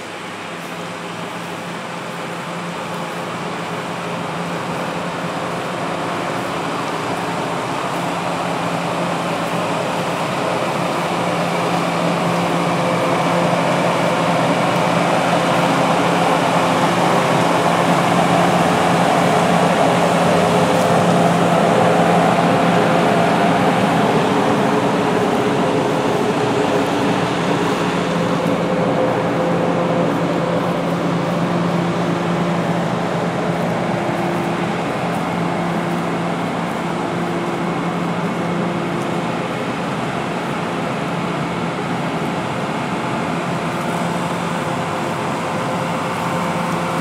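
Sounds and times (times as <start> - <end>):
mechanical hum with held tones: 0.0 - 47.0
rushing noise: 0.0 - 47.0.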